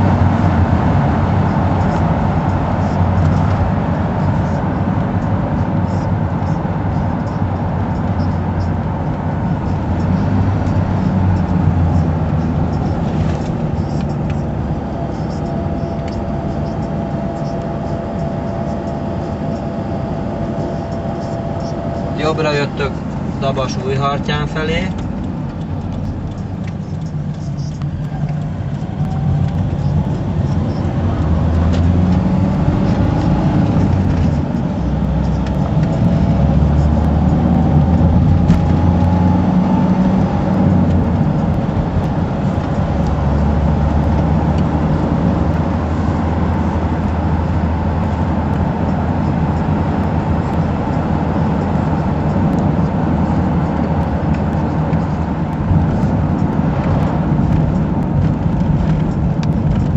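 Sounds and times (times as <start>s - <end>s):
car engine drone: 0.0s - 59.9s
road noise inside car: 0.0s - 59.9s.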